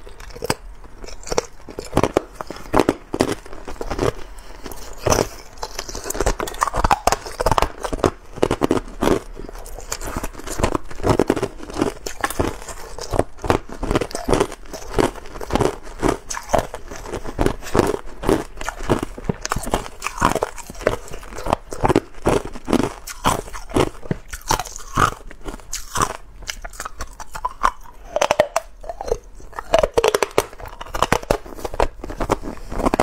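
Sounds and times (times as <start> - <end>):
ice crunching in the mouth: 0.0 - 33.0.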